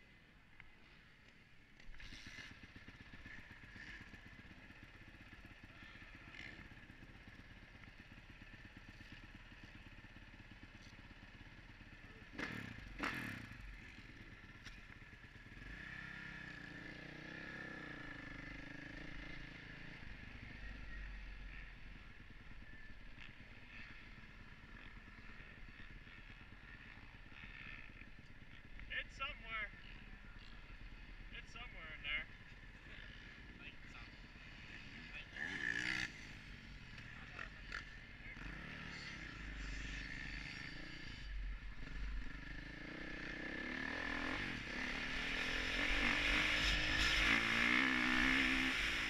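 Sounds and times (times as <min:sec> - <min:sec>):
dirt bike engine running: 0:00.1 - 0:49.0.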